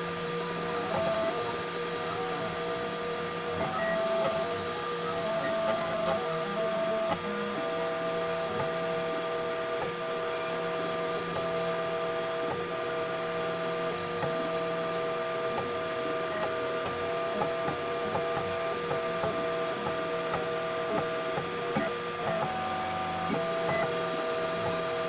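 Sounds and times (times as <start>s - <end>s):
steady hum: 0.0s - 25.0s
stepper motors whining: 0.0s - 25.0s.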